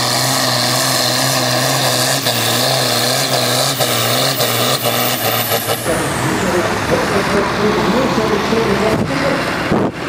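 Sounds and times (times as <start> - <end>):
diesel tractor engine at full load: 0.0 - 10.0.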